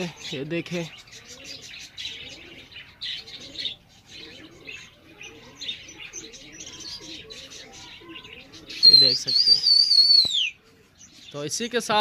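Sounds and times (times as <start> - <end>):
pigeons cooing: 0.0 - 12.0
small birds chirping: 0.0 - 12.0.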